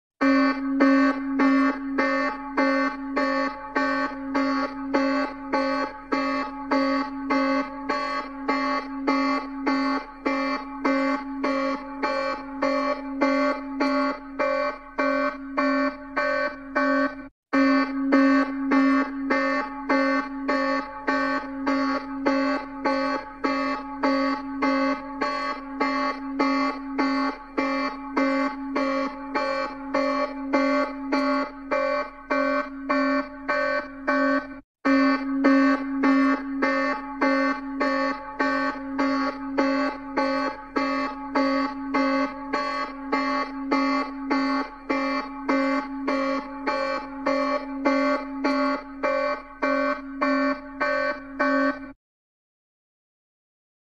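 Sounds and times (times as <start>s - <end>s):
electronic alarm beeping: 0.2s - 52.0s.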